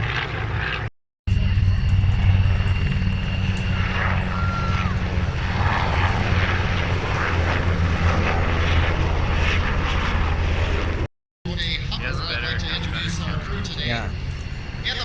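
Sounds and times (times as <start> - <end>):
airplane engine droning: 0.0 - 15.0.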